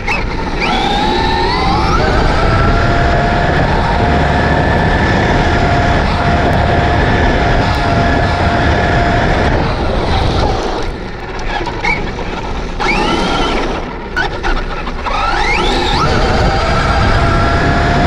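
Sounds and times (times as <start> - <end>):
wind rush: 0.0 - 13.8, 15.3 - 18.0
electric motor whining: 0.0 - 18.0.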